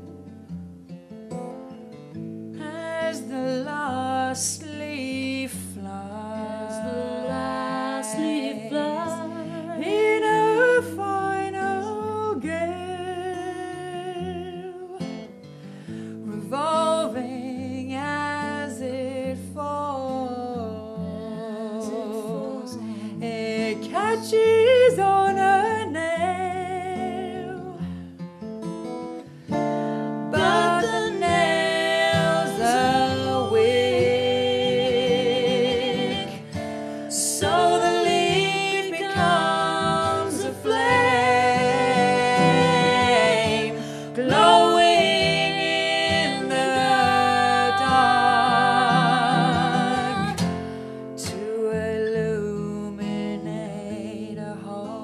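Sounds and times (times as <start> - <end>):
plucked acoustic guitar: 0.0 - 55.0
person singing with vibrato: 2.6 - 15.2, 16.4 - 27.9, 29.9 - 55.0.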